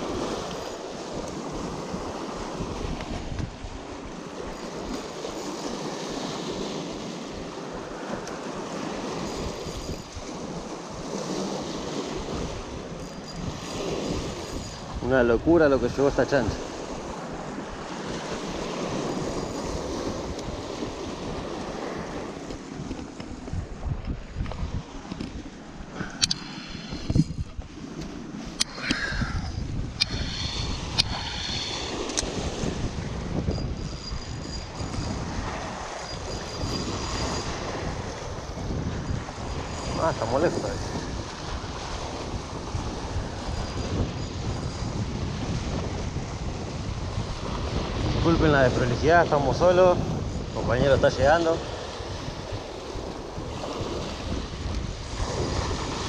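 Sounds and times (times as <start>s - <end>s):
river water lapping: 0.0s - 48.3s, 51.3s - 56.0s
wind buffeting microphone: 0.0s - 56.0s
wind rushing: 6.9s - 56.0s.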